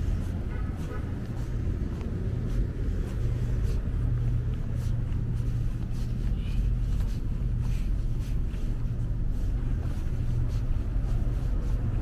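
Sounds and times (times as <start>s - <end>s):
light footsteps: 0.0s - 12.0s
road traffic rumble: 0.0s - 12.0s.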